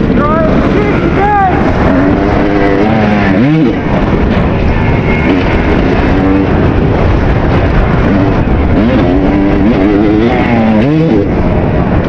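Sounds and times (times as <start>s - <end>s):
dirt bike engine revving: 0.0s - 12.0s
wind noise: 0.0s - 12.0s.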